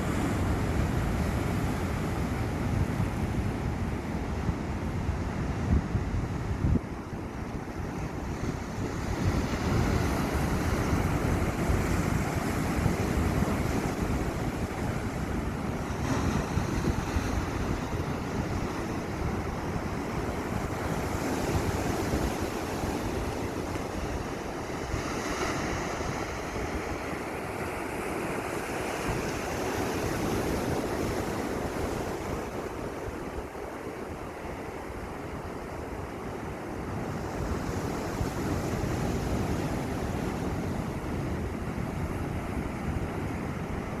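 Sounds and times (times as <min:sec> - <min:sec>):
wind buffeting microphone: 0:00.0 - 0:36.1
sea waves breaking on shore: 0:00.0 - 0:44.0.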